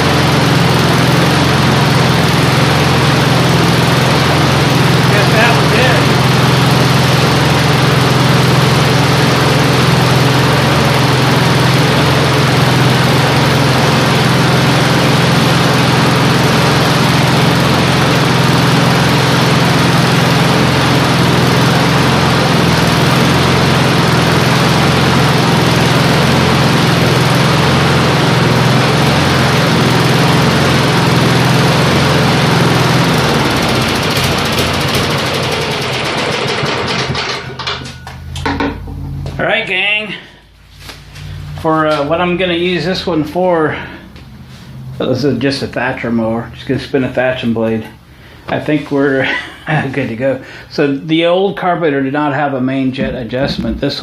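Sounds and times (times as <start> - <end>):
lawn mower engine running: 0.0 - 47.4, 53.0 - 54.0.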